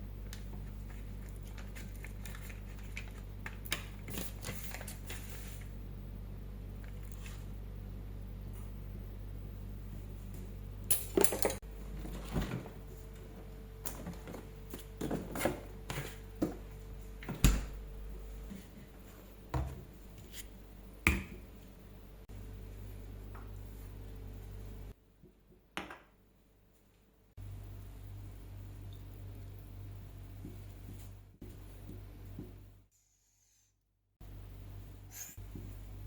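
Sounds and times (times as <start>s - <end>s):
low steady hum: 0.0s - 33.1s, 34.2s - 36.0s.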